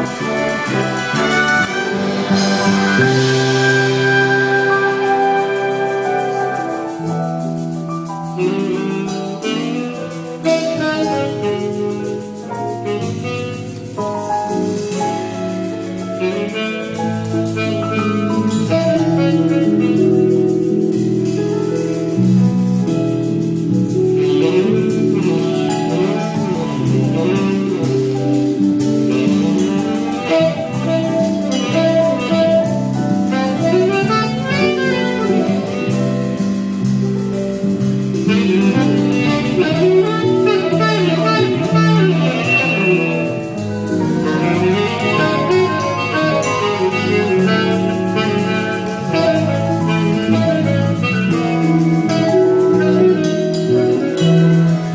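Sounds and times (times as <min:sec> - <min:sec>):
jazz big band playing: 0:00.0 - 0:54.9
saxophones: 0:00.0 - 0:54.9.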